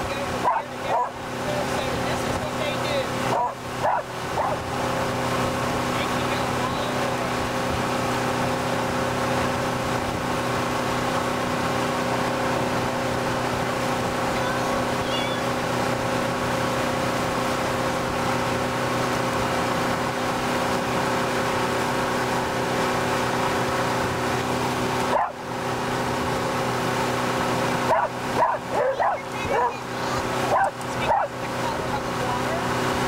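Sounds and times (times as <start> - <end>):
churning wake water: 0.0 - 33.0
motorboat engine running: 0.0 - 33.0.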